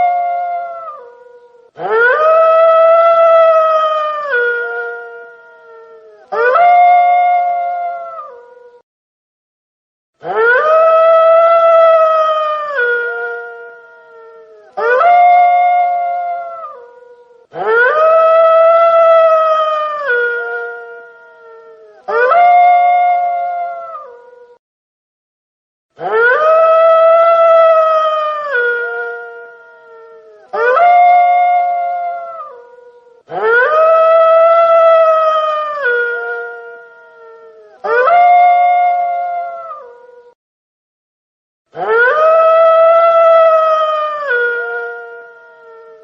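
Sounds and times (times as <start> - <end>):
wolf howling: 0.0 - 8.8, 10.2 - 24.6, 26.0 - 40.4, 41.8 - 46.0.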